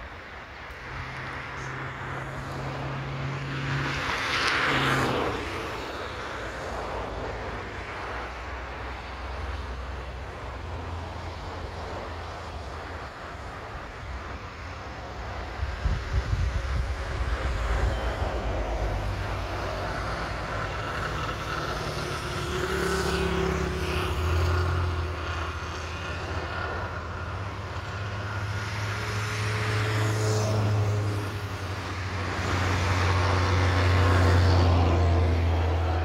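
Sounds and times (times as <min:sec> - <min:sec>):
low traffic rumble: 0:00.0 - 0:36.0
vehicles passing: 0:00.0 - 0:36.0.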